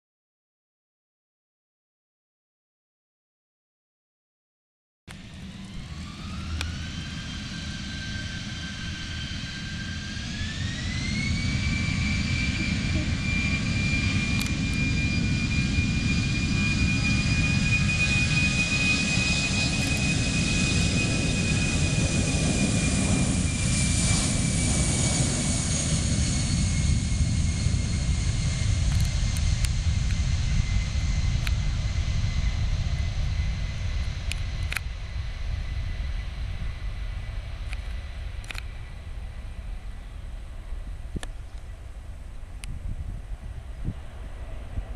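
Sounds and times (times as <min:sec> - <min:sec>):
deep jet rumble: 0:05.1 - 0:44.9
jet engine whine: 0:05.1 - 0:44.9.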